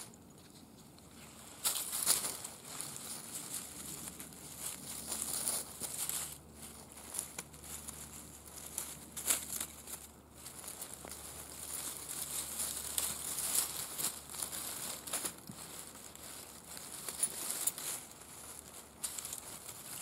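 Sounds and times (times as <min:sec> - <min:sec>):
dry leaf litter crackling: 0:00.0 - 0:20.0
blanket rustling: 0:01.2 - 0:20.0.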